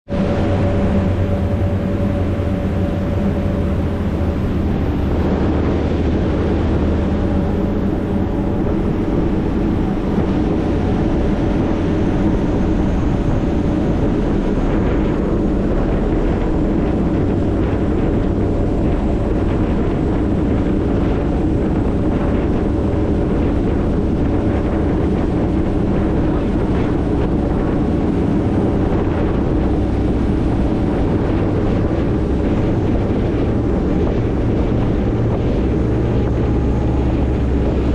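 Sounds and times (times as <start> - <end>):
ferry engines humming: 0.0 - 37.9
wind buffeting: 0.0 - 37.9
rushing water: 0.1 - 37.9.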